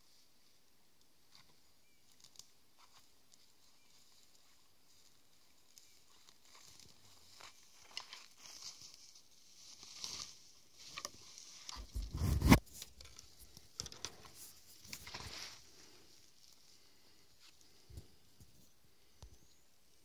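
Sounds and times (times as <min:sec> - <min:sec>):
twigs crackling underfoot: 0:01.2 - 0:18.4.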